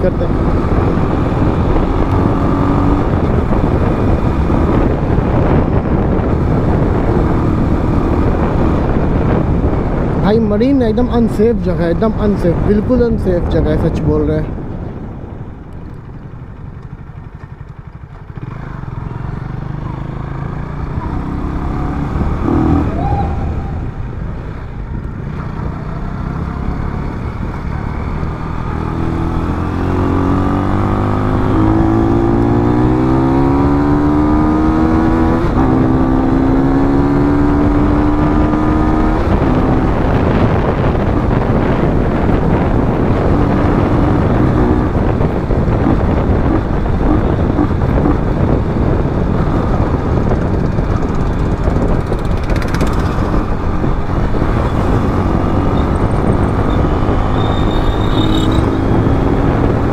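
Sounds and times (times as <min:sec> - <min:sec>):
motorcycle engine accelerating: 0:00.0 - 0:10.2, 0:14.2 - 0:59.9.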